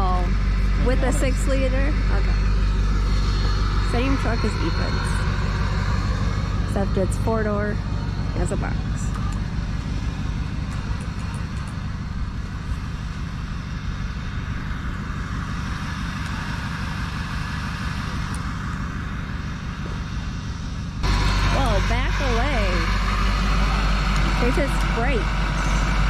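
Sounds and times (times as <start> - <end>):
road vehicle engine rumble: 0.0 - 26.0.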